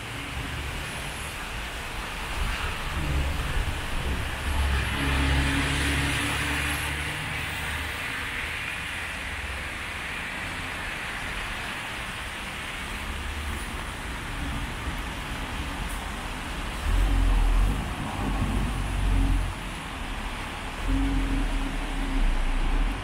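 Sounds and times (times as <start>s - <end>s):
traffic noise: 0.0s - 23.0s
vehicle passing with tyre hiss: 0.0s - 23.0s.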